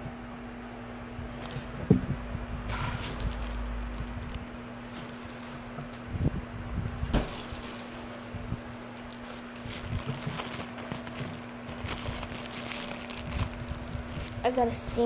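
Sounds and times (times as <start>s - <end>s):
steady low hum: 0.0s - 15.0s
packaging rustling and crackling: 1.3s - 6.2s, 7.0s - 15.0s.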